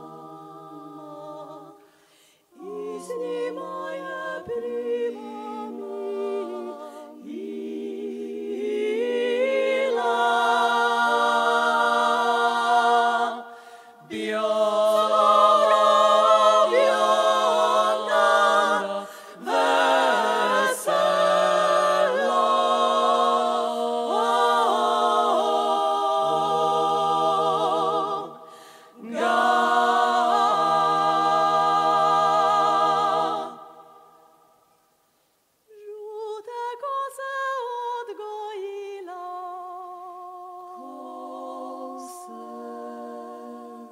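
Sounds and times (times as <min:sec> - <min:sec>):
women singing a cappella: 0:00.0 - 0:34.6, 0:35.7 - 0:43.9.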